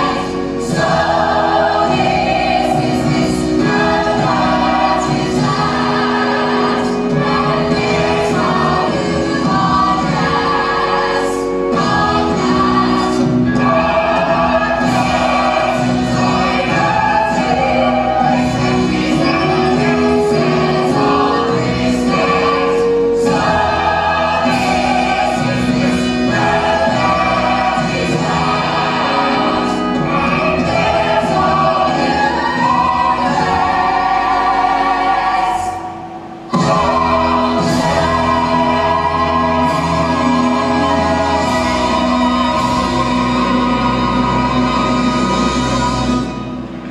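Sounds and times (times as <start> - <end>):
chorus singing in harmony: 0.0 - 46.9
musical accompaniment: 0.0 - 46.9
orchestra playing: 0.0 - 46.9.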